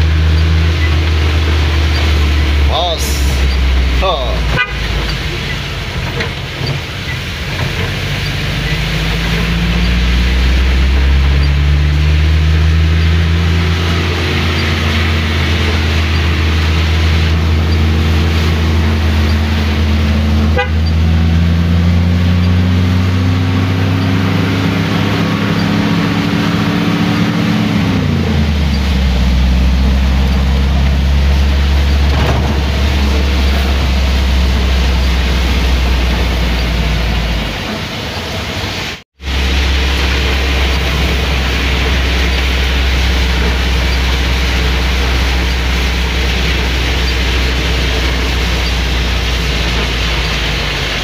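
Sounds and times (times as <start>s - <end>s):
car engine running: 0.0s - 51.0s
rain: 0.0s - 51.0s.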